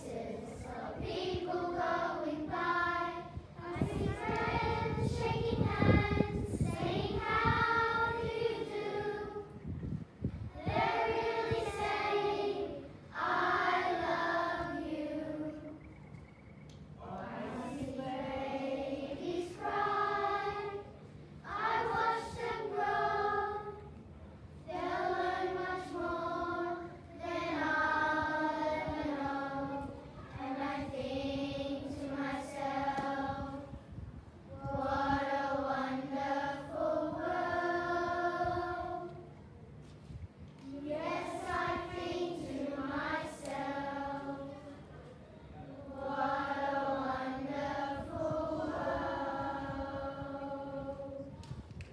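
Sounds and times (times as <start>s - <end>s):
children's choir singing: 0.0s - 9.6s, 10.6s - 15.8s, 17.0s - 23.9s, 24.7s - 33.7s, 34.6s - 39.3s, 40.7s - 44.7s, 45.8s - 51.3s.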